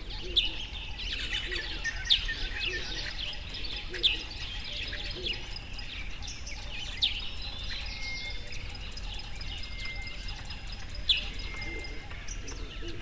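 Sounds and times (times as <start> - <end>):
birds calling and chirping: 0.0 - 13.0.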